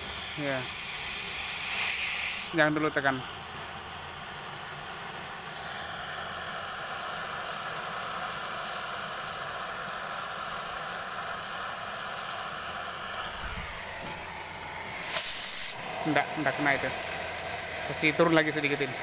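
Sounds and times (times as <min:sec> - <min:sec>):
cutting torch flame hissing: 0:00.0 - 0:19.0.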